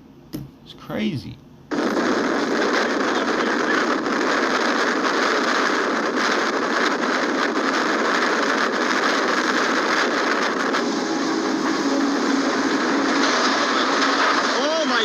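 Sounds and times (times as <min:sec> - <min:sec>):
wind rushing on microphone: 0:01.7 - 0:15.0.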